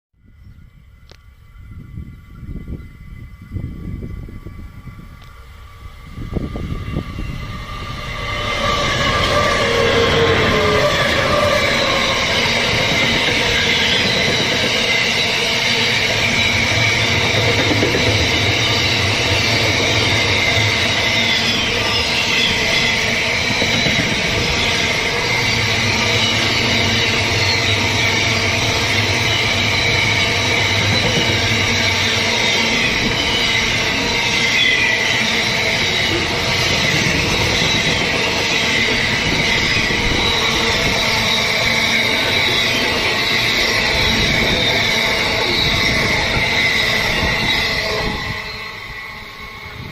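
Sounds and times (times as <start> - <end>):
wheels rumbling on rail: 0.2 - 49.9
high wheel squeal: 1.4 - 49.9.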